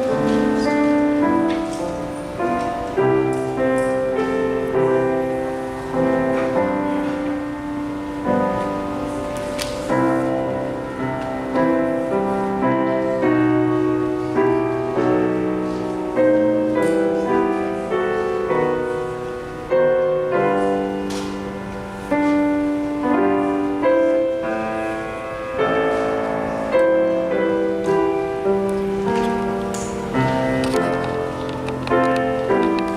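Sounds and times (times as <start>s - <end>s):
slow solo piano chords: 0.0s - 32.9s.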